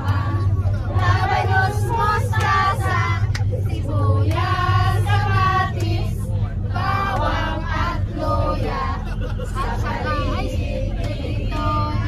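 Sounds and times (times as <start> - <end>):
bus engine drone: 0.0 - 12.0
women singing: 0.0 - 12.0.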